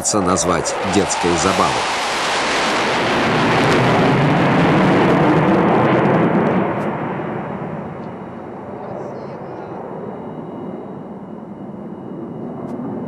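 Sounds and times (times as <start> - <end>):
fighter jets passing overhead: 0.0 - 13.0.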